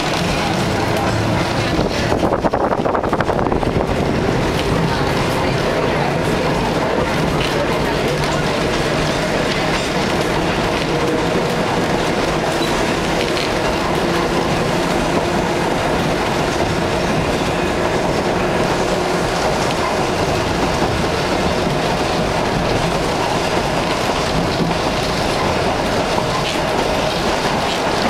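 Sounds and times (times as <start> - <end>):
train wheels rumbling on rails: 0.0 - 28.0
faint clickety-clack: 4.5 - 28.0.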